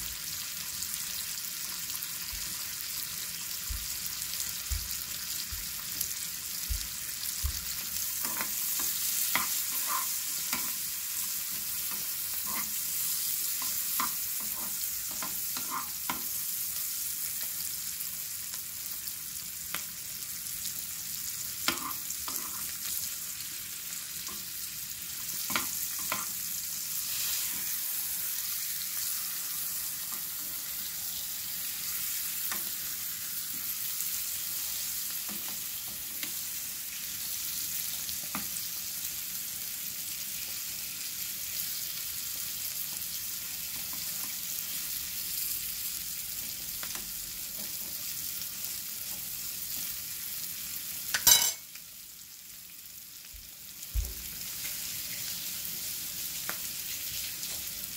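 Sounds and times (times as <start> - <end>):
steak sizzling in a pan: 0.0 - 57.9.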